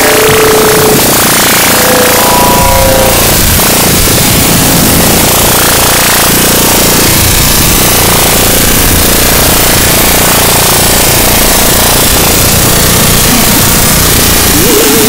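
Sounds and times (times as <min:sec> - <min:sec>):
harsh distorted noise music: 0:00.0 - 0:15.0.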